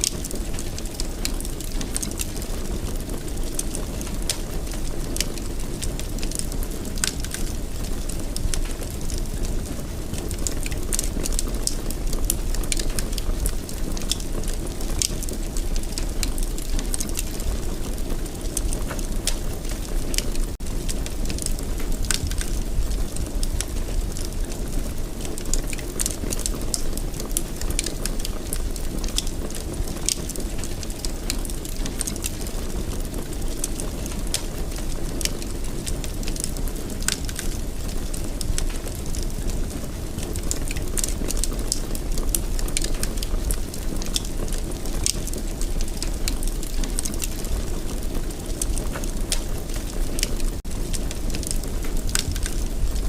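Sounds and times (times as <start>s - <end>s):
low rumble of burning: 0.0s - 53.0s
wood fire crackling and popping: 0.0s - 53.0s.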